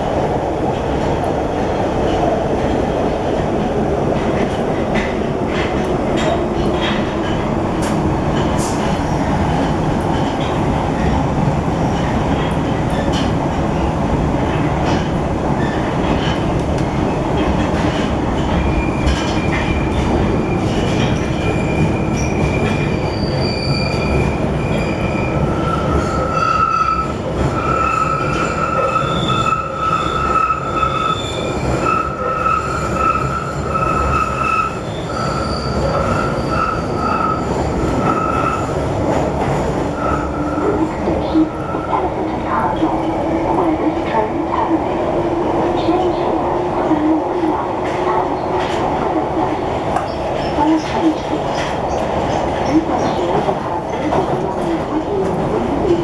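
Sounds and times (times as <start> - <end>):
train wheel and running noise: 0.0 - 56.0.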